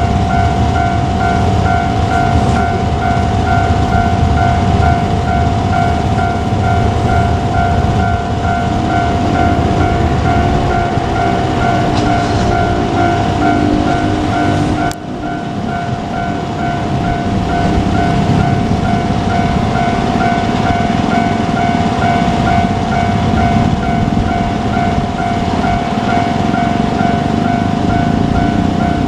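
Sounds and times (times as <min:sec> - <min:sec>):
diesel railcar rumble: 0:00.0 - 0:29.0
level crossing bell clanging: 0:00.0 - 0:29.0.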